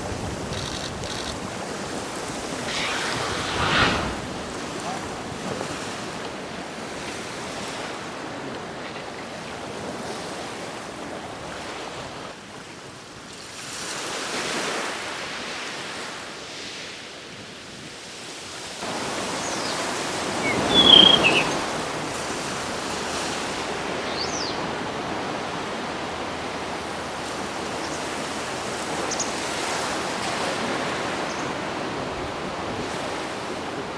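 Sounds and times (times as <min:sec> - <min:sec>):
sea waves washing ashore: 0:00.0 - 0:12.3, 0:18.6 - 0:33.9.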